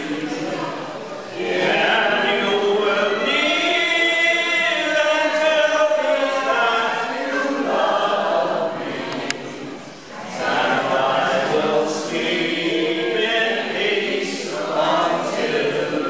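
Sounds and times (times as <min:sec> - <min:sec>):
group singing in unison: 0:00.0 - 0:16.0.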